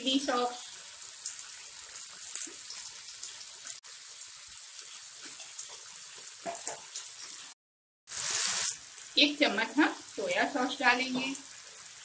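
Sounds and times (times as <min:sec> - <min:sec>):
vegetables frying in hot oil: 0:00.0 - 0:12.0.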